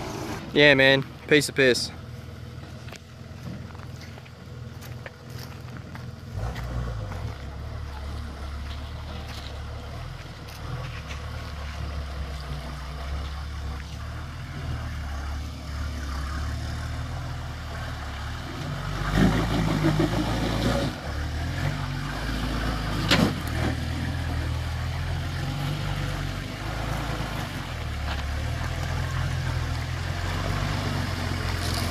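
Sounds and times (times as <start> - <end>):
vehicle engine working under load: 0.0 - 31.9.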